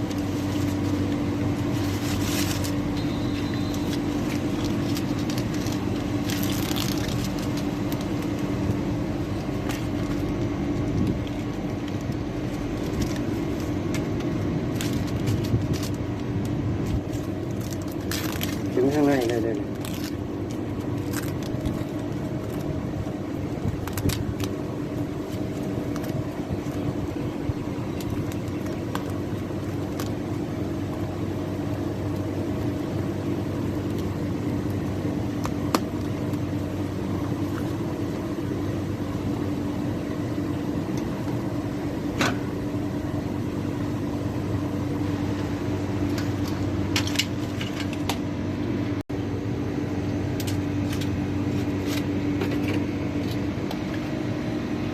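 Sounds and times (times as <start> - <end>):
machine hum: 0.0 - 54.9.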